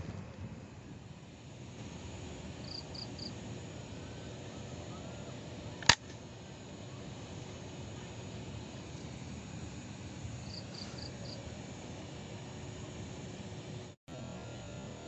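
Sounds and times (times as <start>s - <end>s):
insects buzzing: 0.6s - 15.0s.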